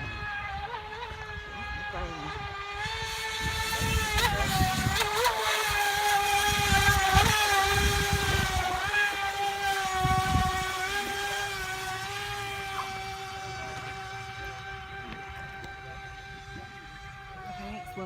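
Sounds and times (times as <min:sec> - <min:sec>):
electric motor high-pitched whine: 0:00.0 - 0:18.0.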